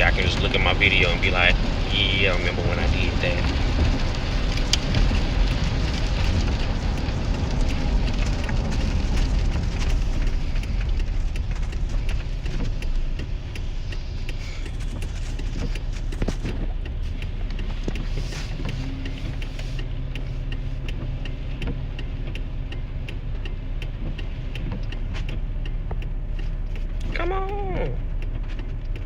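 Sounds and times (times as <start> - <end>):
engine idle hum: 0.0 - 29.0
heavy rain: 0.0 - 29.0
light ticks: 0.0 - 29.0
wet road tyre noise: 0.0 - 29.0.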